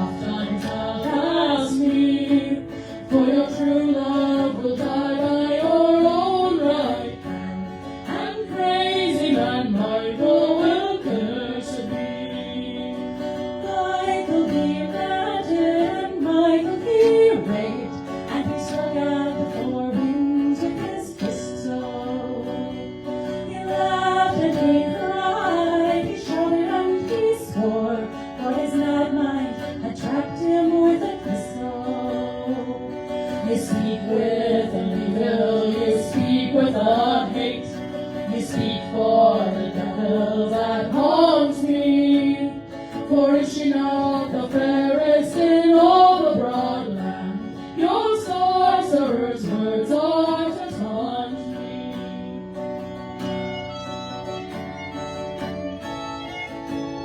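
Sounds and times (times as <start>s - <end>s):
plucked acoustic guitar: 0.0s - 57.0s.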